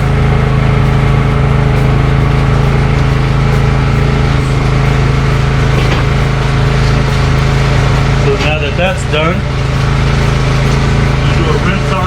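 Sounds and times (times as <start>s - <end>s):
power sander running: 0.0s - 12.0s.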